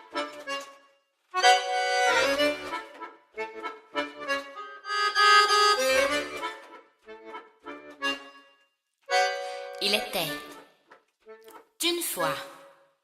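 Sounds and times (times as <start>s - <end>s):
accordion chords: 0.0s - 12.8s.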